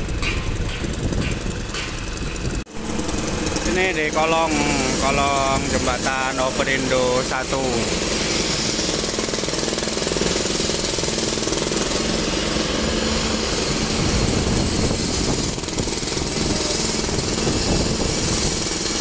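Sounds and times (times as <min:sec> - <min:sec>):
diesel engine rattling drone: 0:00.0 - 0:19.0.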